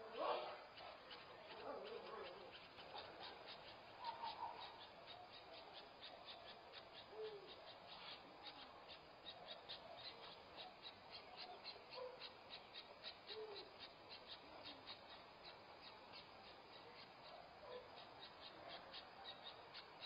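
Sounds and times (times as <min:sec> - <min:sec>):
owl hoots: 0:00.0 - 0:20.0
insect ticking: 0:01.1 - 0:20.0.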